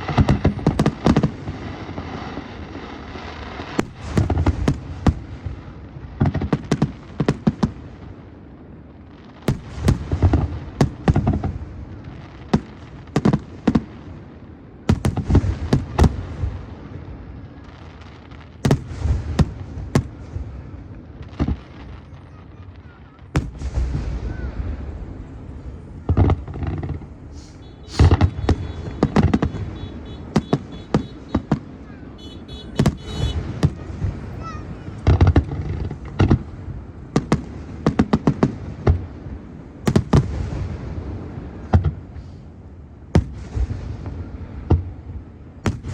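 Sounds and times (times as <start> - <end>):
fireworks bangs and crackling: 0.0 - 45.9
low fireworks booms: 0.0 - 45.9.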